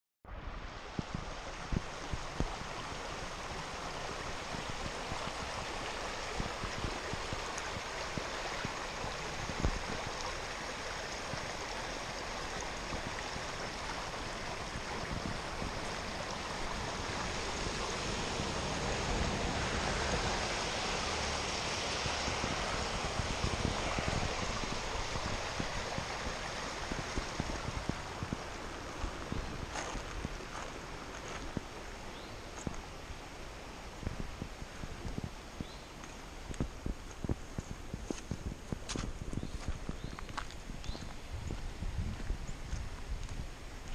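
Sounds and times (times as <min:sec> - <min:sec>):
flooded creek rushing: 0:00.3 - 0:43.9.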